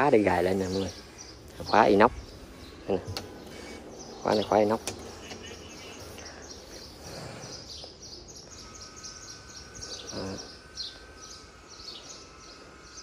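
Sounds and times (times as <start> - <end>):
low outdoor background hum: 0.0 - 13.0
small birds chirping: 0.0 - 13.0.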